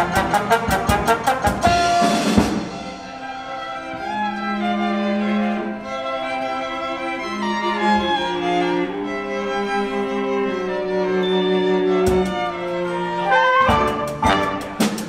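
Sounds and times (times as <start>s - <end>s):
orchestral strings playing chords: 0.0s - 15.0s.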